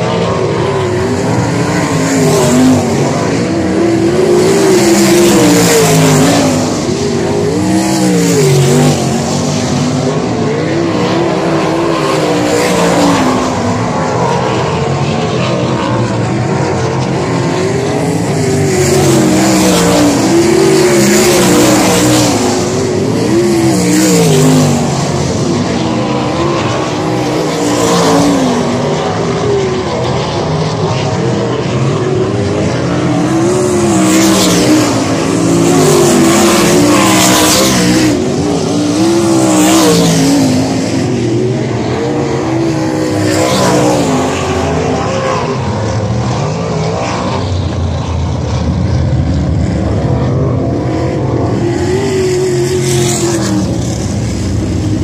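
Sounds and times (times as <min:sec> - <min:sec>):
race car engines passing: 0:00.0 - 0:55.0.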